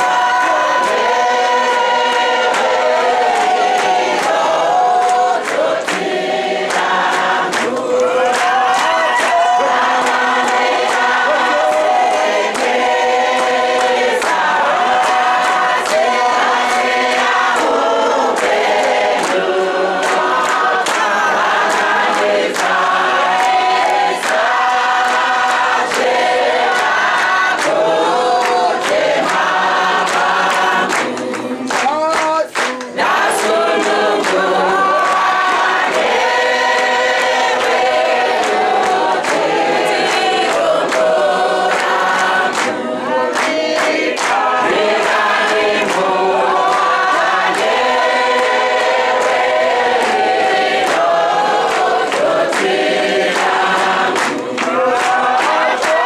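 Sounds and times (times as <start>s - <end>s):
women singing a hymn: 0.0s - 31.8s, 32.9s - 56.0s
hand clapping: 0.0s - 56.0s.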